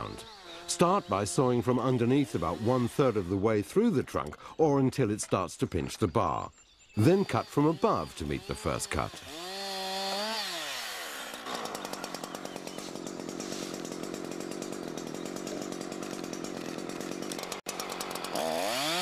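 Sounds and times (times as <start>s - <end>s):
chainsaw idling and revving: 0.0s - 4.3s, 7.0s - 19.0s.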